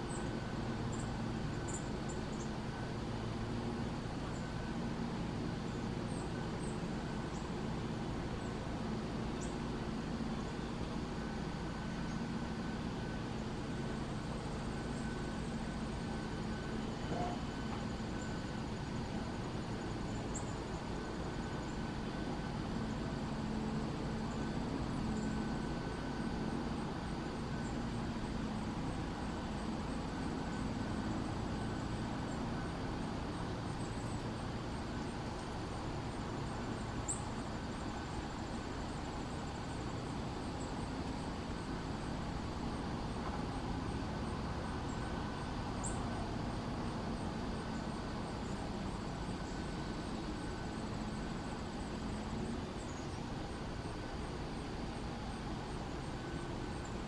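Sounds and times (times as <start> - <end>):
insect trill: 0.0 - 57.0.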